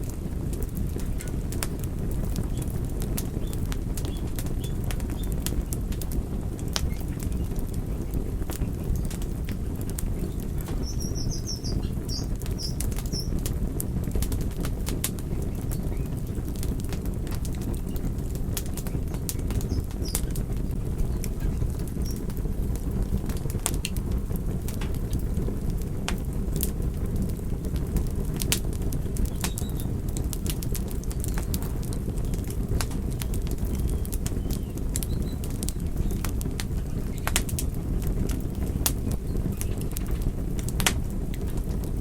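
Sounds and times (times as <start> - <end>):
low rush of flames: 0.0 - 42.0
wood crackling and popping: 0.0 - 42.0.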